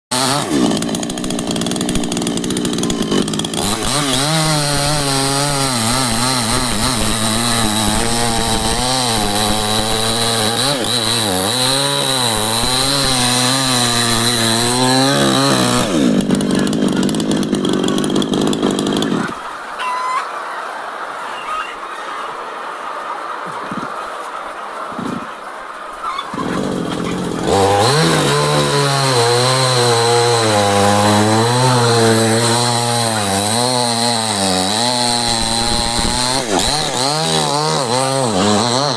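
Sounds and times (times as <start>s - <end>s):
chainsaw cutting wood: 0.1s - 19.6s, 26.2s - 38.9s.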